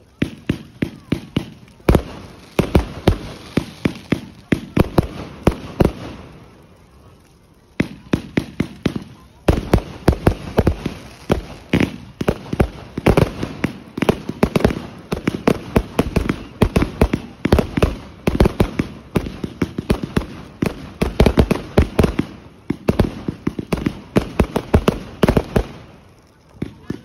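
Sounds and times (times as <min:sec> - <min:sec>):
firework bursts: 0:00.0 - 0:27.0.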